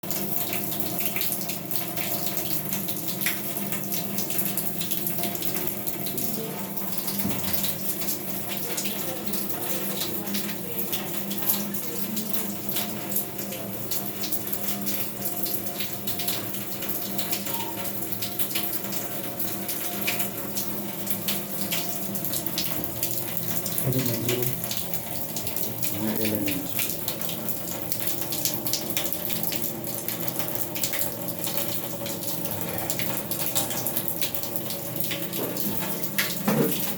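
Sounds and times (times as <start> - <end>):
water running from a tap: 0.0 - 36.9.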